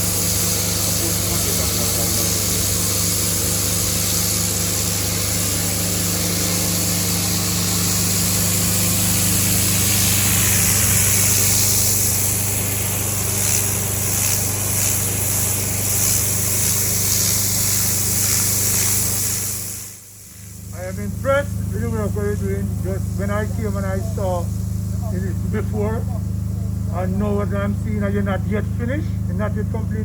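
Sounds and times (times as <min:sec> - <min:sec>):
short hissing pulses: 0:00.0 - 0:28.4
machine humming with hiss: 0:00.0 - 0:30.0.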